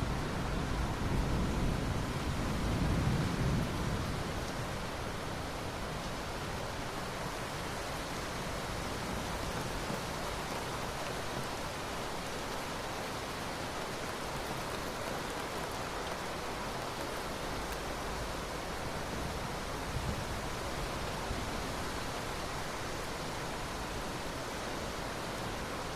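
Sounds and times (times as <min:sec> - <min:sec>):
steady rain falling: 0:00.0 - 0:25.9.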